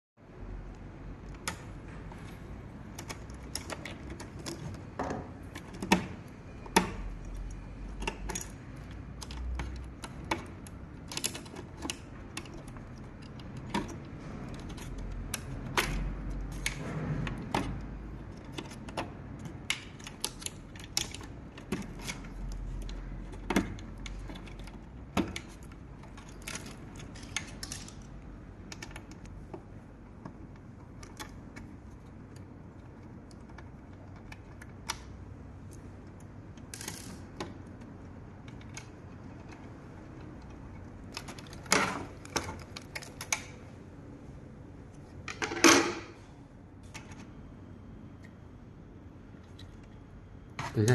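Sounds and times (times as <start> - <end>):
tools and parts clicking and tapping: 2.9 - 43.6.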